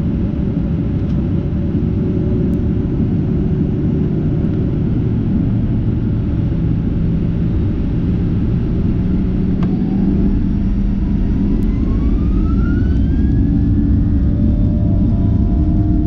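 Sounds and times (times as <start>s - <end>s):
jet engine whine rising: 0.0s - 16.0s
jet engines rumbling in cabin: 0.0s - 16.0s.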